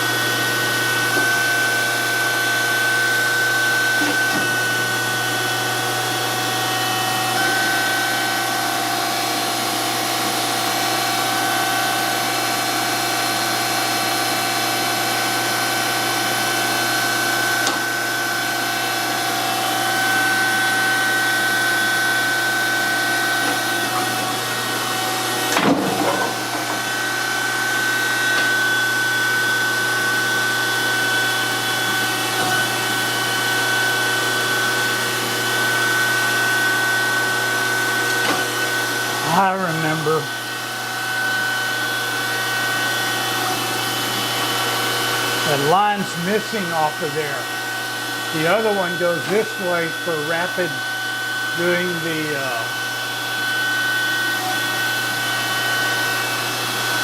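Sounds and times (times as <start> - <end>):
grinder motor hum and whine: 0.0 - 57.0.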